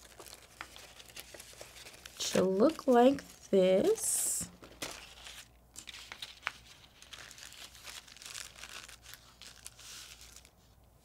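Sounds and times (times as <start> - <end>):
plastic bag and paper crinkling: 0.0 - 10.8.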